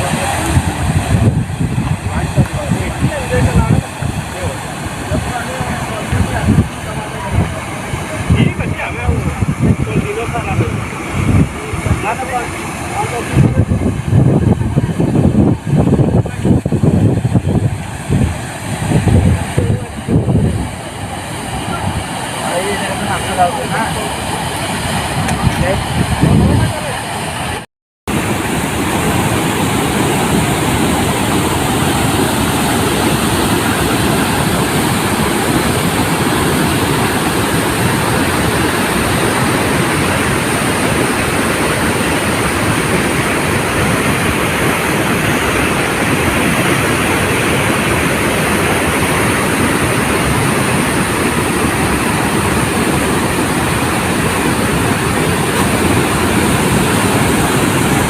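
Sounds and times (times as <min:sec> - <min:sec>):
water rushing through spillway: 0:00.0 - 0:58.0.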